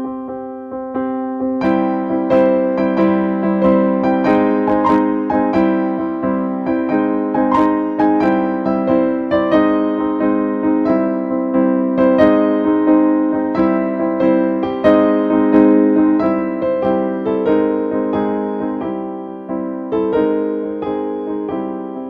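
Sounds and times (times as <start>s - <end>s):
keyboard melody over low chords: 0.0s - 22.0s.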